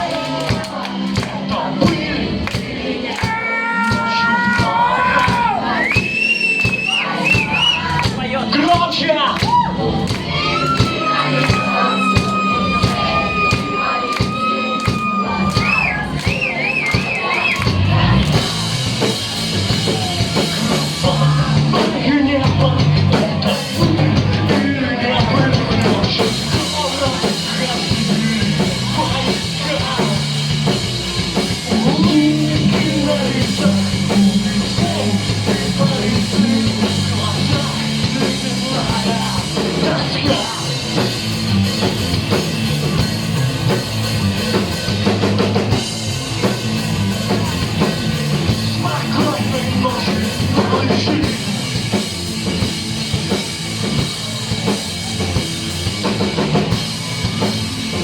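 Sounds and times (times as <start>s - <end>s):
drum kit: 0.0s - 58.0s
moving bass line: 0.0s - 58.0s
rock band playing live: 0.0s - 58.0s.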